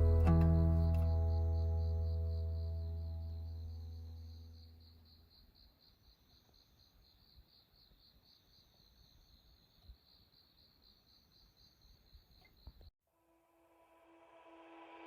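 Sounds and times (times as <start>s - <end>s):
crickets chirping: 0.0s - 12.9s.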